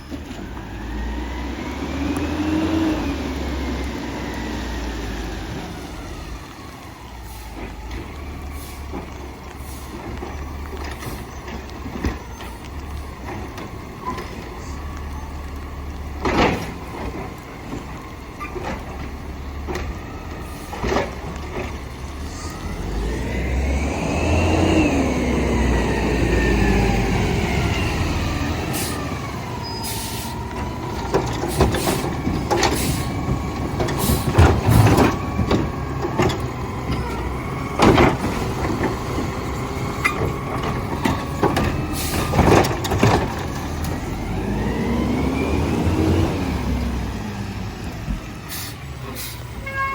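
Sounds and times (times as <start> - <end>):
garbage truck engine and hydraulics: 0.0 - 49.9.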